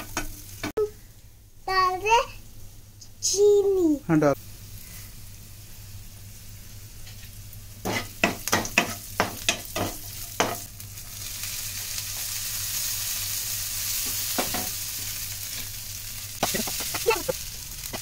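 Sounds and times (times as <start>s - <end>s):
food sizzling in pan: 0.0s - 1.0s, 3.4s - 18.0s.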